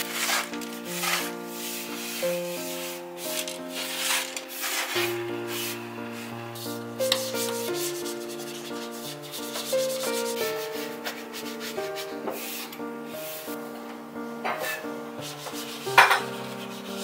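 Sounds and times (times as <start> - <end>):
cloth rubbing: 0.0 - 13.6
soft background music: 0.0 - 17.0.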